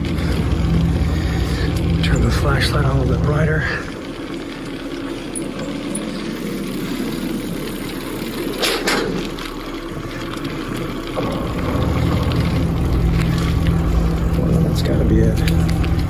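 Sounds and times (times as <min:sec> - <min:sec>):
bicycle riding rushing noise: 0:00.0 - 0:16.0
strong low steady hum: 0:00.0 - 0:16.0.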